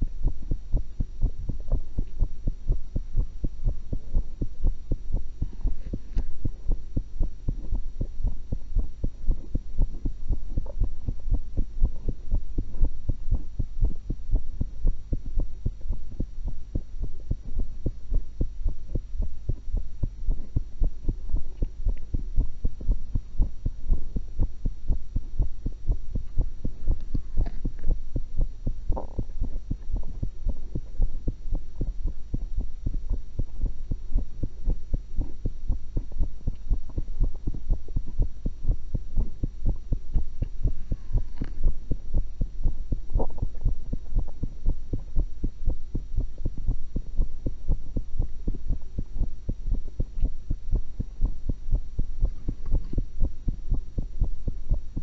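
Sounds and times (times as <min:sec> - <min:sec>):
heartbeat through stethoscope: 0:00.0 - 0:55.0.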